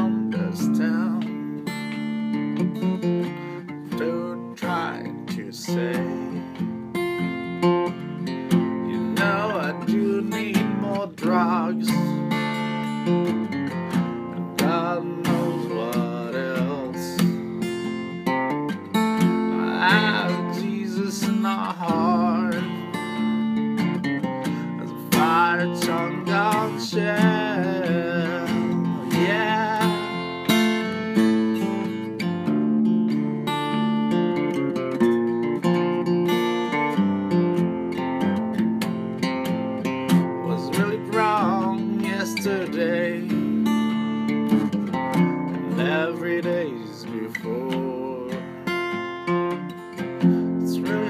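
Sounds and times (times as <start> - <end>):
acoustic guitar strumming: 0.0 - 51.0.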